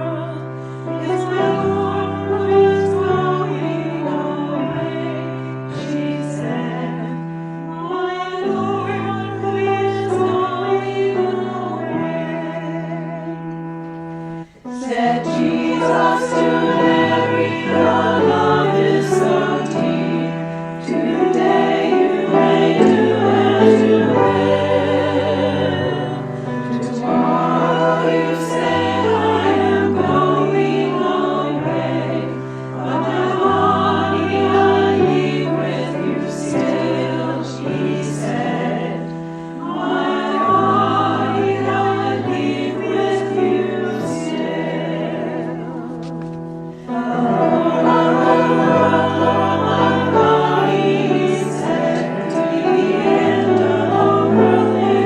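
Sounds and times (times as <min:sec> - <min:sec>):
church choir singing a hymn: 0:00.0 - 0:55.0.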